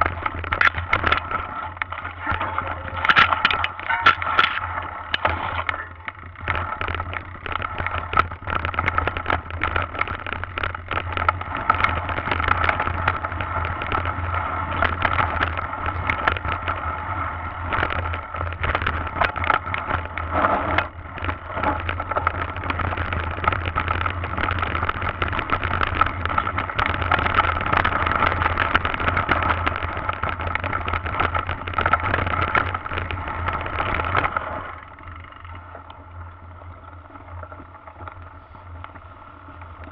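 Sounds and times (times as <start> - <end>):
bike rattling over bumps: 0.0 - 39.9.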